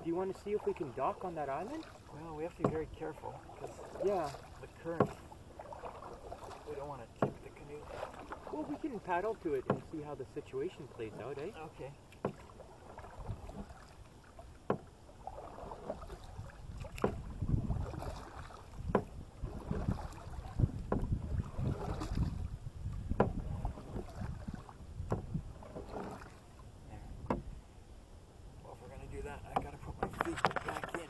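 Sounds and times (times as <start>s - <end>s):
paddle knocking canoe side: 0.0s - 27.6s, 29.0s - 31.0s
water swishing from paddle strokes: 0.0s - 31.0s.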